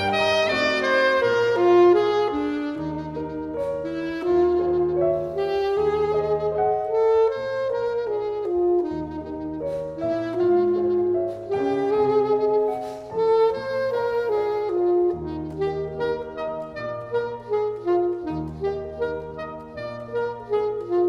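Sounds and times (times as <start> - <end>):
piano chords: 0.0 - 21.0
saxophone melody: 0.0 - 21.0.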